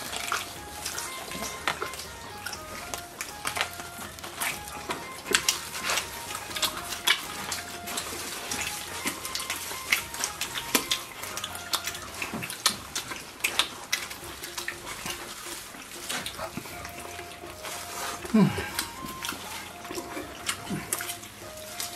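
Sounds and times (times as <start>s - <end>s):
person chewing with lip-smacks: 0.0s - 21.9s.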